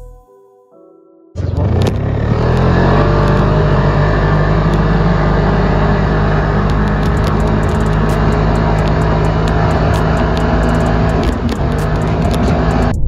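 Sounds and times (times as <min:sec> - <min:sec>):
snowmobile engine running: 0:01.4 - 0:13.0
steady rushing noise: 0:02.0 - 0:13.0.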